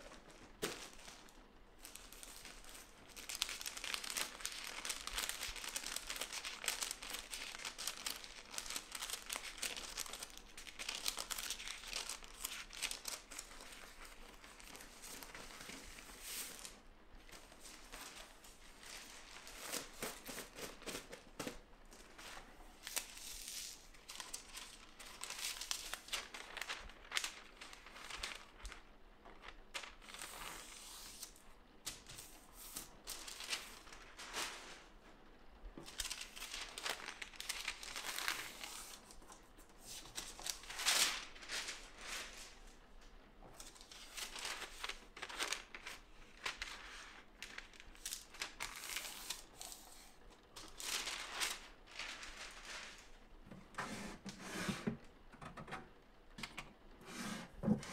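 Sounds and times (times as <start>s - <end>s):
paper rustling and crinkling: 0.0s - 57.9s.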